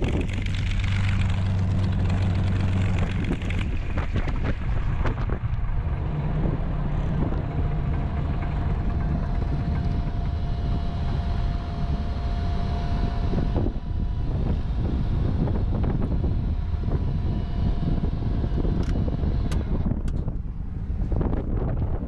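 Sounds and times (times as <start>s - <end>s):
aircraft engine low rumble: 0.0s - 22.0s
faint steady whine: 0.0s - 22.0s.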